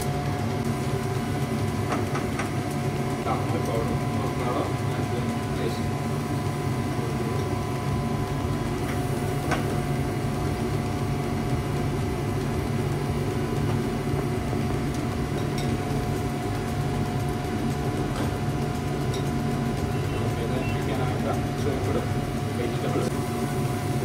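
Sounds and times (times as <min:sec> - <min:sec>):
exhaust hood fan humming: 0:00.0 - 0:24.0.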